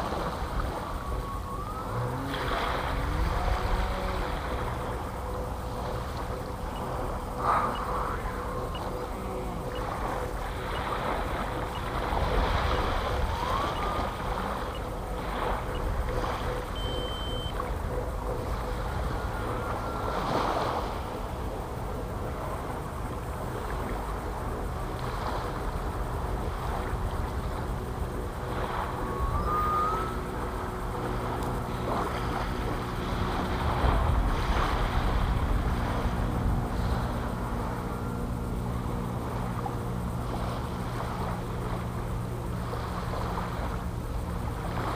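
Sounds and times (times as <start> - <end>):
propeller aircraft engine droning: 0.0 - 44.9
wind noise on microphone: 0.0 - 44.9.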